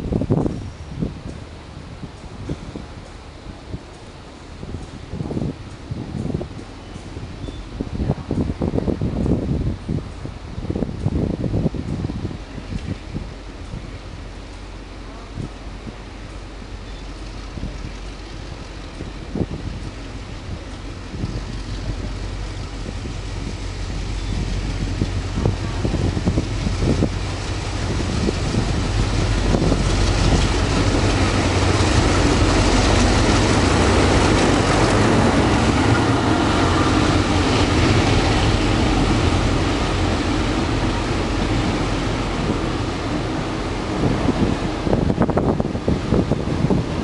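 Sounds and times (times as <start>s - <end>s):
locomotive engine hum: 0.0s - 47.0s
rail rumble: 0.0s - 47.0s.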